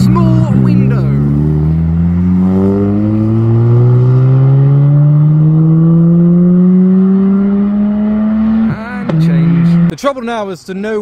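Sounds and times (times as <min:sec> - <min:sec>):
rotary engine accelerating: 0:00.0 - 0:09.9.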